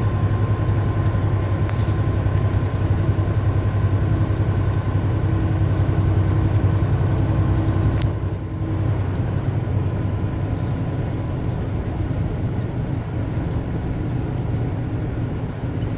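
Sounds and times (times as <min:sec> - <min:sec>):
truck engine drone in cab: 0:00.0 - 0:15.9.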